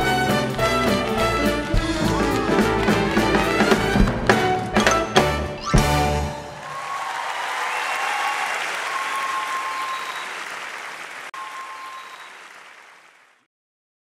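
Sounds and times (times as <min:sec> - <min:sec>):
audience applauding: 0:00.0 - 0:04.6, 0:06.2 - 0:13.5.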